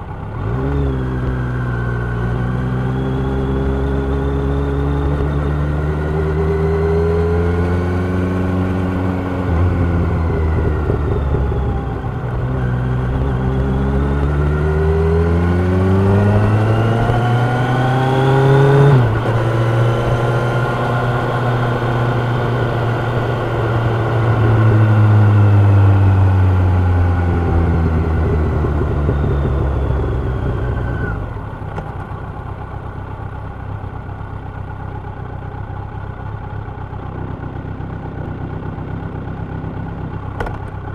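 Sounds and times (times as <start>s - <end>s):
motorcycle engine revving: 0.0s - 33.3s.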